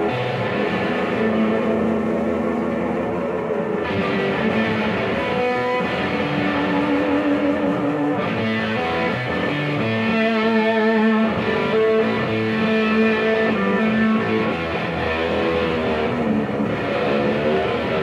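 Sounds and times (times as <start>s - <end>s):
bass guitar: 0.0s - 18.0s
electric guitar long wavering notes: 0.0s - 18.0s.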